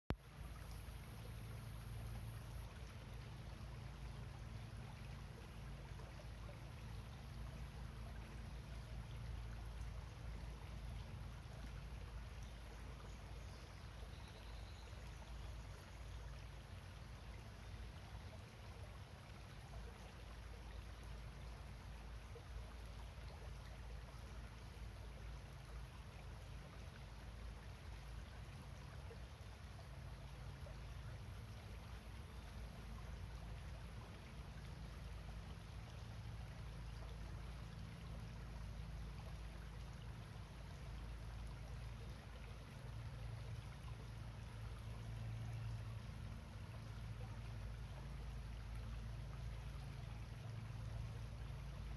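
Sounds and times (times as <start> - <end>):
creek trickling over stones: 0.1 - 51.9.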